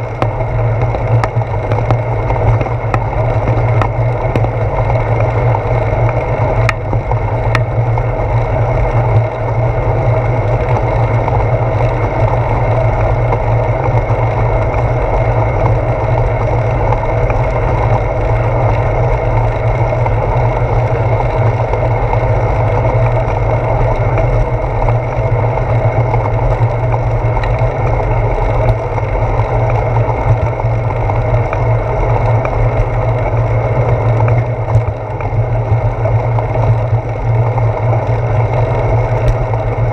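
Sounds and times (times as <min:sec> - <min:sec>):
road noise: 0:00.0 - 0:39.9
wind rumble: 0:00.0 - 0:39.9.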